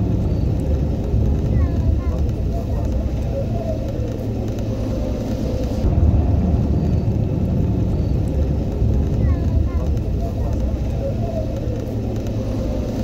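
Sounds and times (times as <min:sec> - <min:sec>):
vehicle driving rumble: 0:00.0 - 0:13.0.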